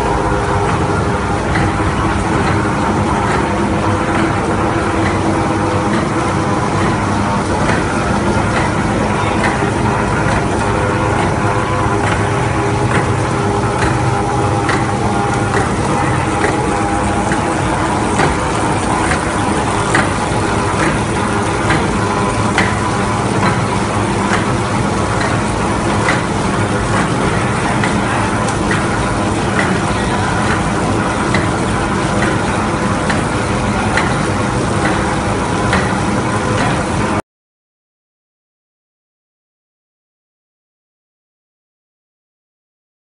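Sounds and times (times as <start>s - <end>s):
embossing machine drone: 0.0s - 37.2s.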